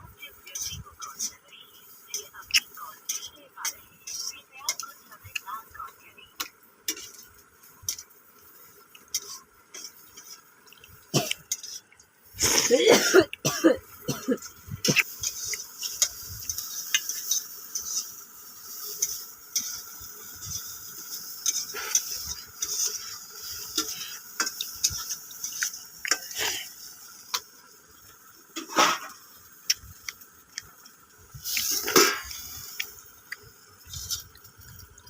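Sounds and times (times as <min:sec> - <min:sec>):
hand mixing wet rice: 0:00.0 - 0:35.0.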